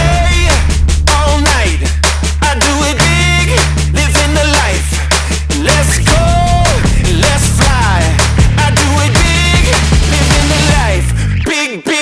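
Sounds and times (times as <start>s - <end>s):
steady drum beat: 0.0s - 11.1s
heavy bass: 0.0s - 11.6s
vocals sliding up and down: 0.0s - 12.0s.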